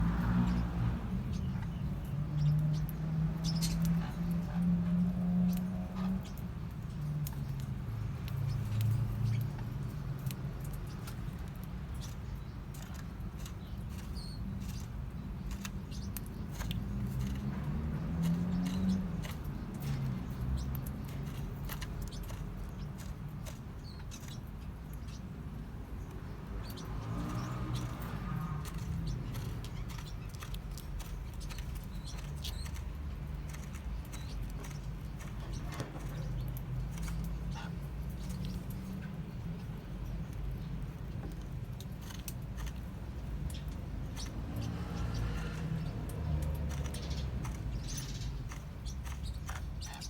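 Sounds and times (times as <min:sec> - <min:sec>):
parrot chicks squeaking and chirping: 0:00.3 - 0:50.0.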